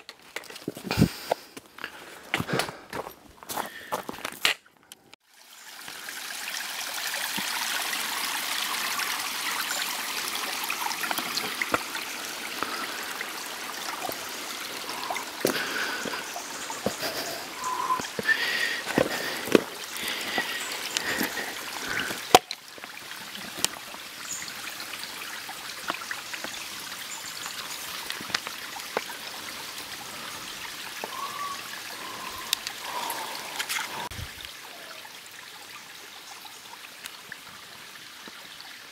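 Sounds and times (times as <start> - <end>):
mountain stream flowing: 5.2 - 38.9.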